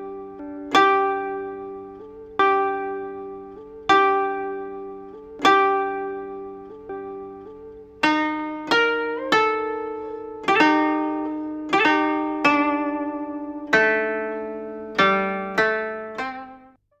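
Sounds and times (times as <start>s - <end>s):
plucked string melody: 0.0s - 16.8s.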